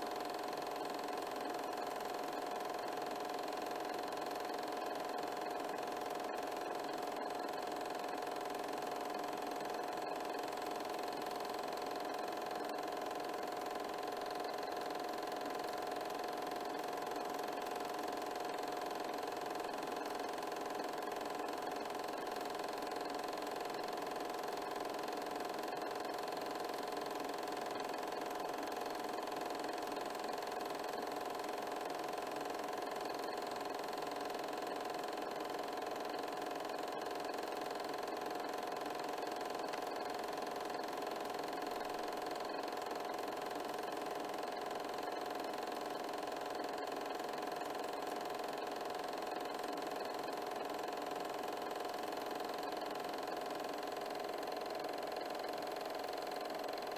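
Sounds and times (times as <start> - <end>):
film projector whirring: 0.0 - 56.9.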